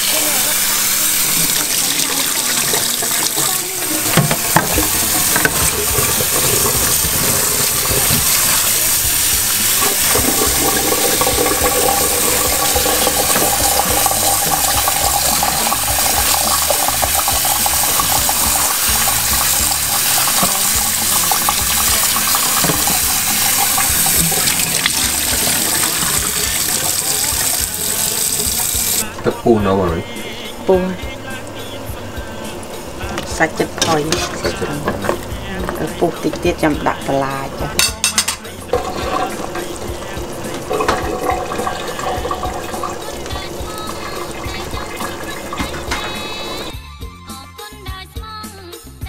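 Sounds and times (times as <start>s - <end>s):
tap running into sink: 1.2s - 29.3s, 33.0s - 36.8s, 37.6s - 46.7s.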